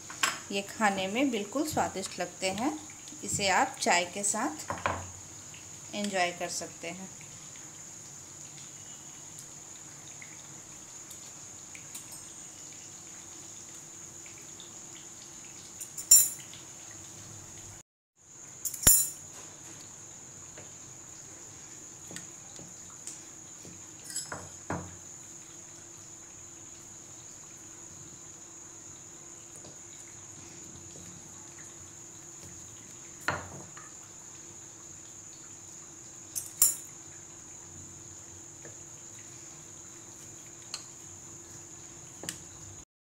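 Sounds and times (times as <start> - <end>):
crickets chirring: 0.0 - 17.7, 18.3 - 42.8.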